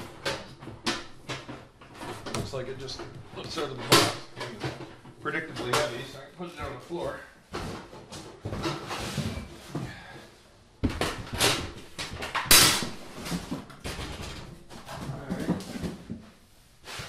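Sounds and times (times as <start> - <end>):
cardboard and packing rustling: 0.0 - 10.1, 10.8 - 17.0.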